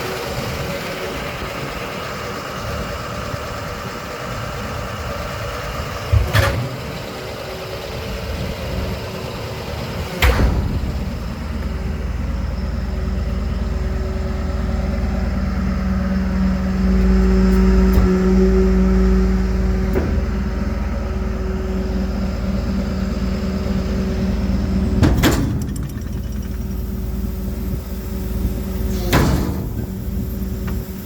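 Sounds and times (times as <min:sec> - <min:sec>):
garbage truck hum: 0:00.0 - 0:31.0.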